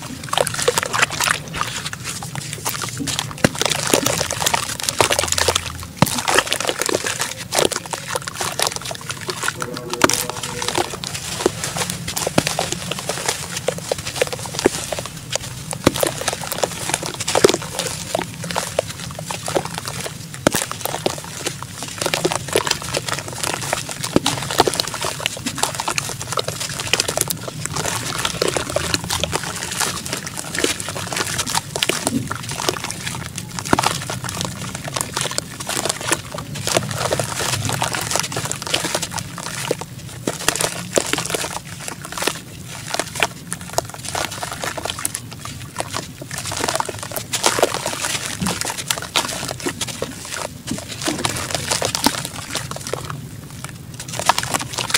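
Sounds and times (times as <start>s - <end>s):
gritty crackles of wet cement: 0.0s - 54.9s
water sloshing and splashing: 0.0s - 54.9s.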